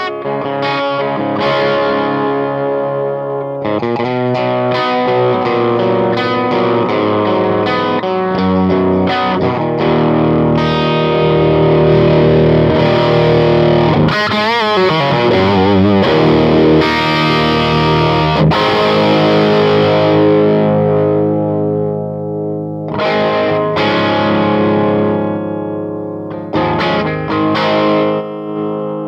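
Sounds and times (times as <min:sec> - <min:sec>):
bent guitar notes wavering: 0:00.0 - 0:29.0
overdriven electric guitar chords: 0:00.0 - 0:29.0.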